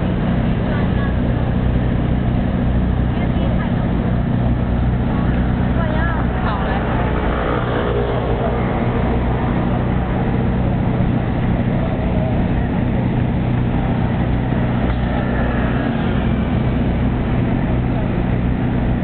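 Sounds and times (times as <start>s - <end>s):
faint voices: 0.0s - 19.0s
low machine hum: 0.0s - 19.0s.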